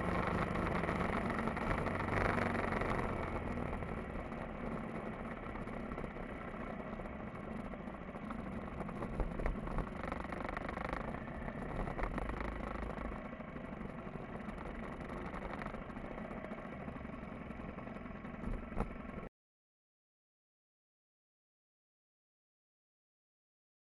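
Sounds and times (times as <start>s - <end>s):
motorcycle engine running: 0.0s - 19.3s
road and wind noise: 0.0s - 19.3s.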